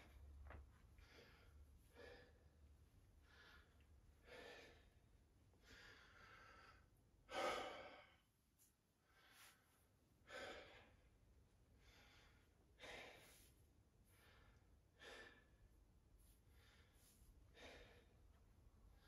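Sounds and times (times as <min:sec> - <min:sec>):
man breathing heavily: 0:01.0 - 0:08.4, 0:09.0 - 0:19.0.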